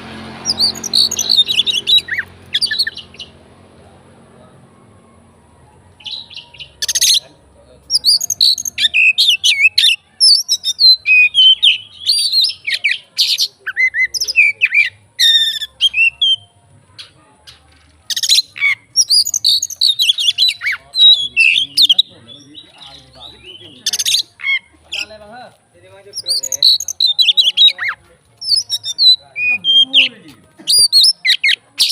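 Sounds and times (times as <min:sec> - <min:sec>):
songbird singing loudly: 0:00.0 - 0:03.4, 0:05.9 - 0:25.2, 0:26.0 - 0:31.9.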